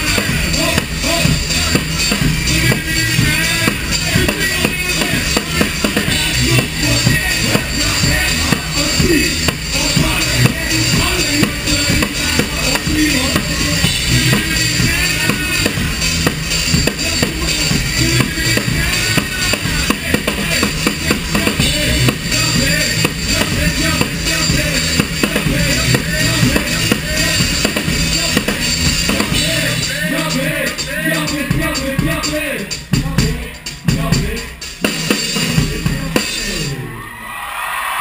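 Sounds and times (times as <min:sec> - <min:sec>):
low bass line: 0:00.0 - 0:34.5
drum kit played hard: 0:00.0 - 0:36.9.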